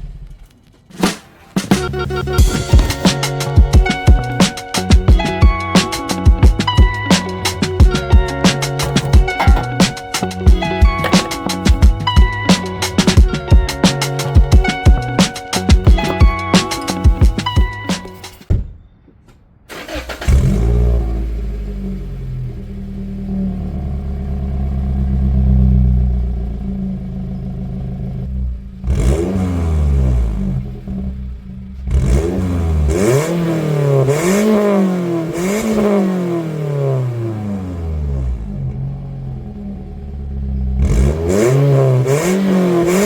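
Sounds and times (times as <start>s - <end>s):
car engine idling and revving: 1.8s - 18.3s, 19.9s - 43.0s.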